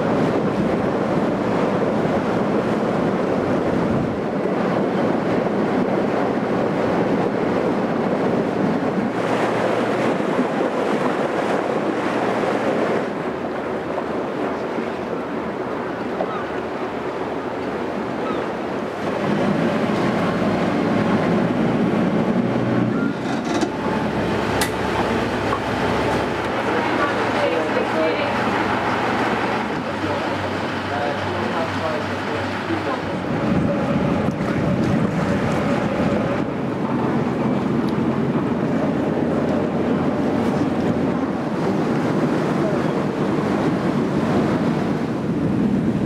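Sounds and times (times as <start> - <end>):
boat engine running low: 0.0 - 46.0
wind and water rushing: 0.0 - 46.0.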